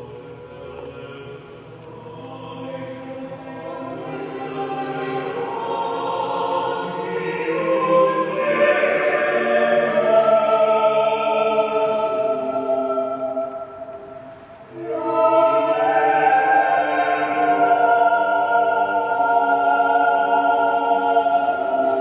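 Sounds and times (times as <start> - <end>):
choir singing sustained chords: 0.0 - 22.0.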